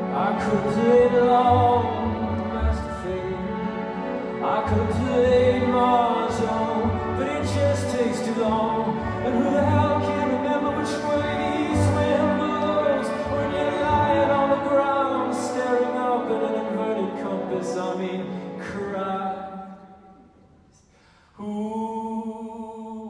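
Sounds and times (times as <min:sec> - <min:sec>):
orchestra sustained chords: 0:00.0 - 0:19.8.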